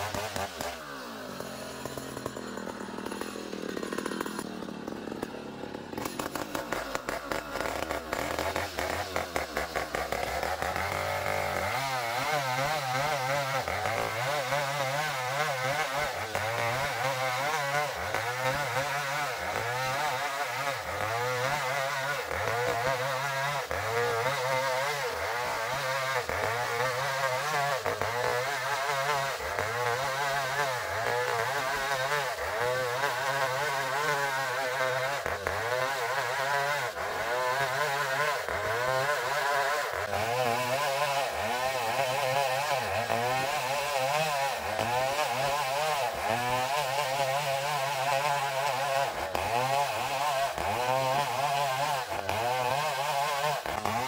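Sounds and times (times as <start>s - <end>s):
engine-driven saw cutting wood: 0.0s - 54.0s.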